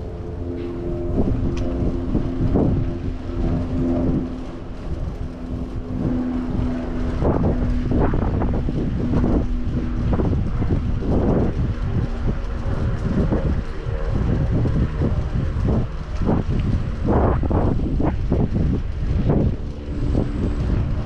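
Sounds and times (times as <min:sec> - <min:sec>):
motor vehicle humming: 0:00.0 - 0:21.0
street traffic: 0:00.0 - 0:21.0
wind on microphone: 0:00.0 - 0:21.0.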